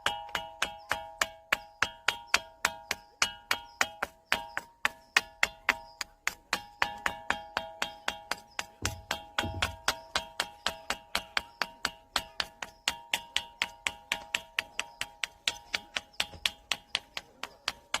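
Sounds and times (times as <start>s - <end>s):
ringing rocks struck: 0.0s - 18.0s.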